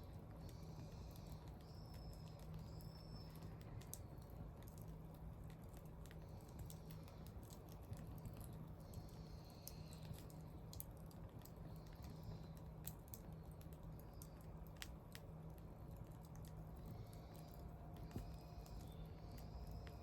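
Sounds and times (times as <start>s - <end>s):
burning wood popping: 0.0s - 20.0s
steady low hum: 0.0s - 20.0s
wood fire crackling: 0.0s - 20.0s.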